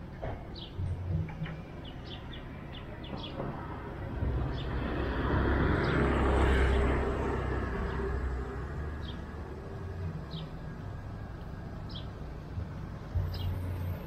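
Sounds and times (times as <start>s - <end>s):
passing vehicle engine rumble: 0.0s - 14.0s.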